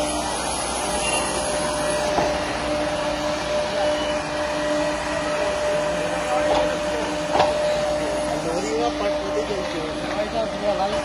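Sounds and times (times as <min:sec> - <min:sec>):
lorry engine drone: 0:00.0 - 0:11.0
rail wheels rolling: 0:00.0 - 0:11.0.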